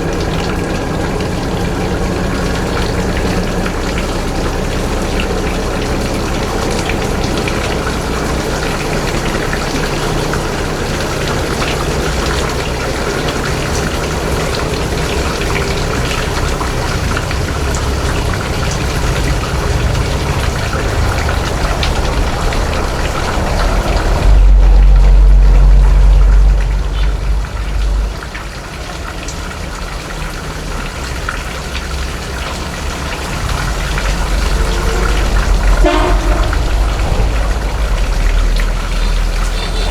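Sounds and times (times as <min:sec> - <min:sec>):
loud low rumble: 0:00.0 - 0:29.1, 0:32.3 - 0:39.9
boat engine running: 0:00.0 - 0:39.9
rushing water: 0:00.0 - 0:39.9.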